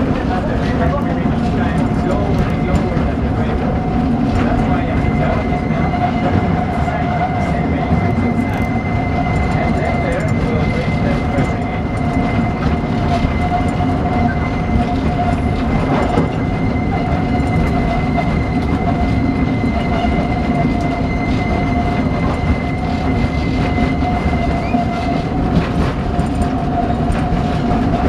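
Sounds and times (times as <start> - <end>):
locomotive engine and wheel rumble: 0.0 - 28.0.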